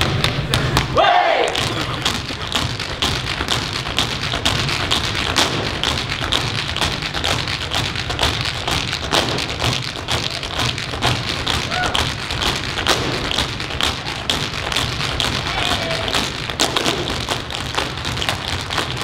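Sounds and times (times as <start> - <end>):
basketballs bouncing on floor: 0.0 - 19.0.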